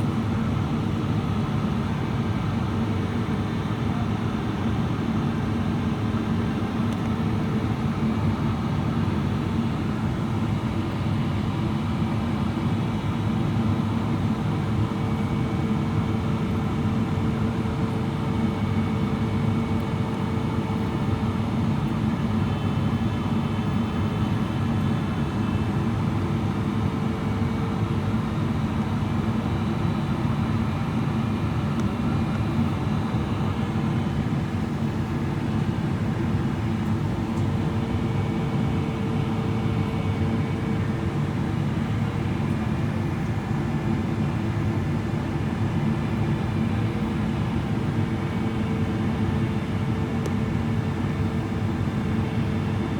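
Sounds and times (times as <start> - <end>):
airflow roar inside aircraft cabin: 0.0 - 52.9
jet engines: 0.0 - 52.9.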